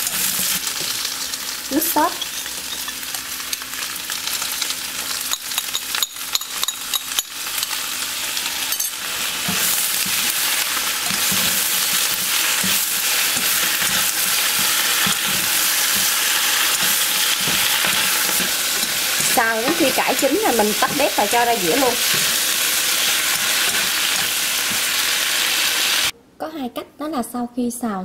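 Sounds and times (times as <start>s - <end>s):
vegetables sizzling in a wok: 0.0s - 26.2s.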